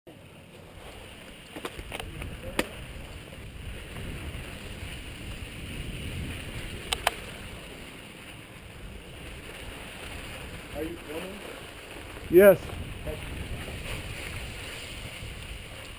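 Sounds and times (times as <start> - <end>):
bike tyres rumbling on dirt: 0.4 - 15.9
bike rattling over rocks: 1.1 - 15.9.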